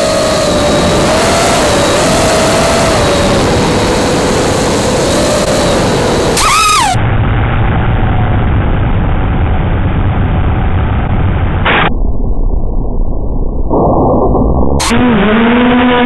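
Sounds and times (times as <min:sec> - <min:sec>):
loud rushing noise: 0:00.0 - 0:15.9.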